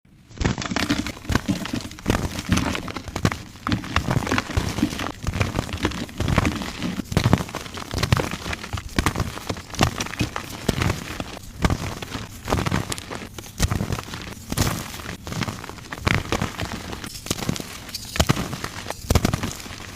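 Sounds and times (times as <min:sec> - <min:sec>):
chalk blocks crunching: 0:00.3 - 0:19.9.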